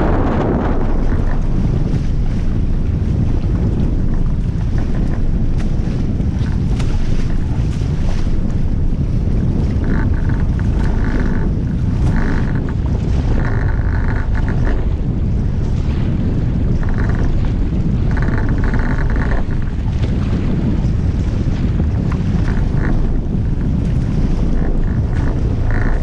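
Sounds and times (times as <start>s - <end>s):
water rushing past hulls: 0.0s - 26.0s
wind buffeting microphone: 0.0s - 26.0s.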